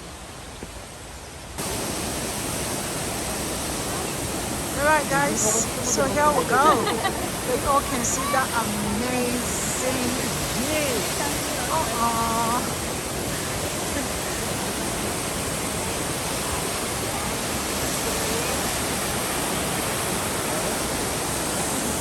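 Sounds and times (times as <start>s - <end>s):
waterfall pouring: 1.6s - 22.0s.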